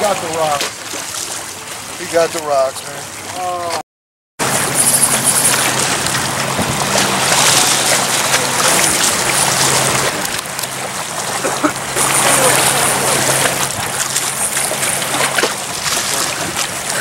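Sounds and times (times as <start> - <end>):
water splashing against rocks: 0.0 - 3.8, 4.4 - 17.0.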